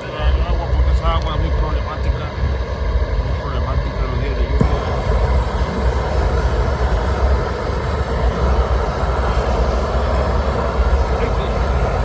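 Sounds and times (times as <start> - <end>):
propane torch burning: 0.0 - 12.0.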